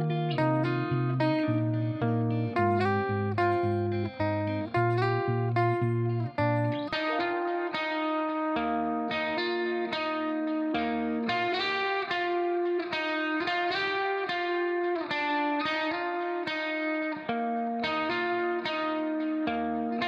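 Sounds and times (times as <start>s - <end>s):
plucked string music: 0.0s - 20.0s.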